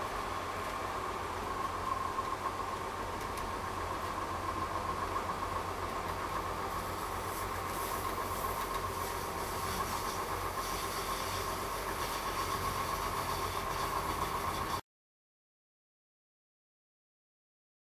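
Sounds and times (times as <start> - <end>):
constant whine: 0.0 - 14.8
train car rumble: 0.0 - 14.8.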